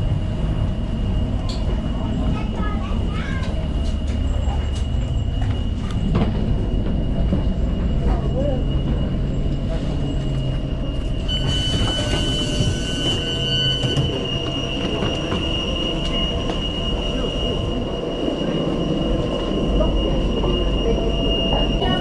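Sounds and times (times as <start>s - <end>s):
train wheels rumbling: 0.0s - 22.0s
high wheel squeal: 4.3s - 22.0s.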